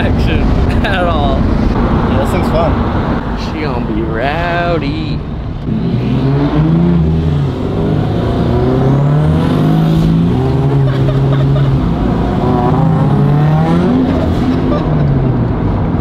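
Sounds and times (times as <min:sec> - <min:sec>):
car engine under load: 0:00.0 - 0:16.0.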